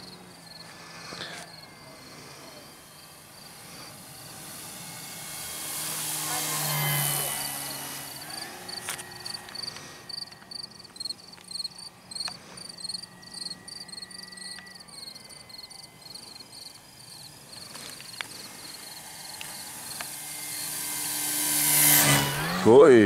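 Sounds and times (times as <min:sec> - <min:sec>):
crickets chirping: 0:00.0 - 0:05.3, 0:07.4 - 0:20.8
electric motor humming: 0:00.0 - 0:23.0.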